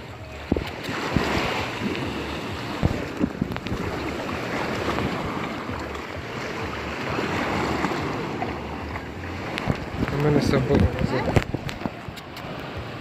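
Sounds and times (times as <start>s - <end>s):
sea surf washing onto beach: 0.0s - 13.0s
wind buffeting microphone: 0.0s - 13.0s.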